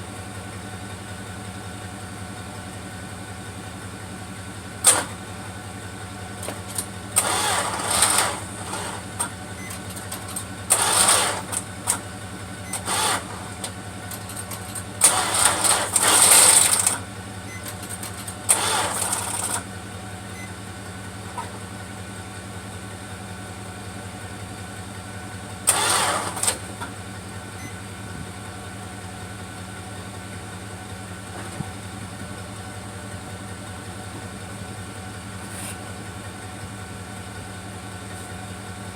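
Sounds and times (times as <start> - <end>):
car engine cranking: 4.1 - 22.1, 25.2 - 38.9.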